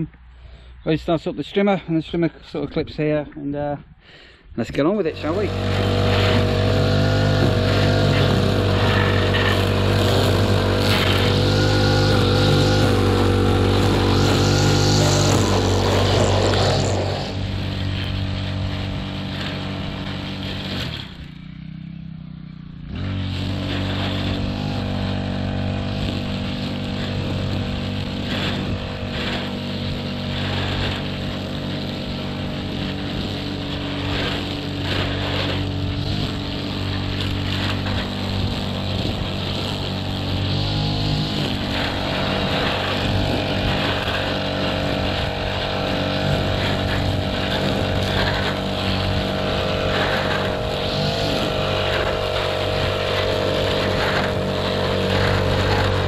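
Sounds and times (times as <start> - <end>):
petrol strimmer engine running: 4.8 - 56.0.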